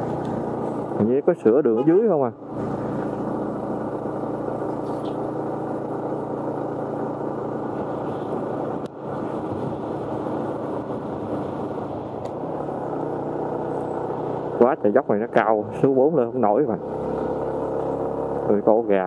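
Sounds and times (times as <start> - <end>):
motorbike engine running: 0.0 - 19.0.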